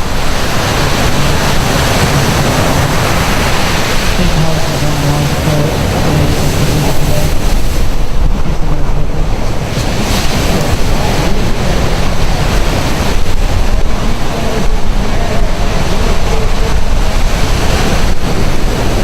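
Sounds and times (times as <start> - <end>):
surf breaking and rumbling: 0.0 - 19.0
wind buffeting microphone: 0.0 - 19.0.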